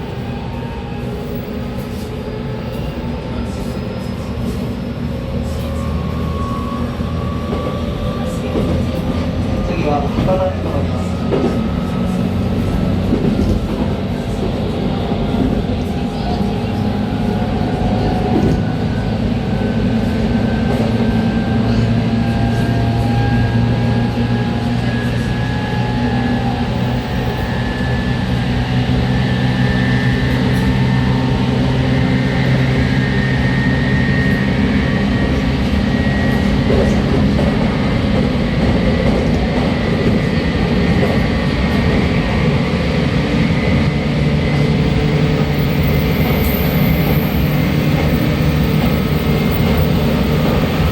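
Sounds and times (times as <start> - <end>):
wheels rumbling on track: 0.0 - 50.9.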